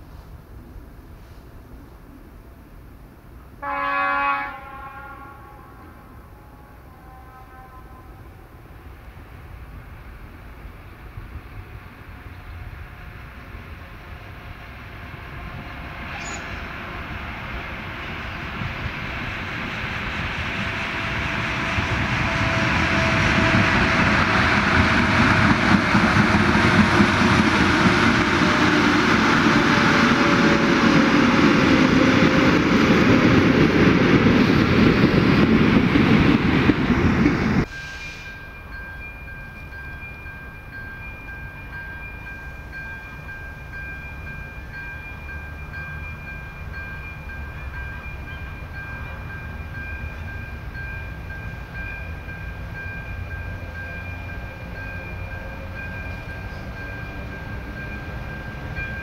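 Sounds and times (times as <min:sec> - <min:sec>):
train wheels rumbling on rails: 0:08.3 - 0:59.0.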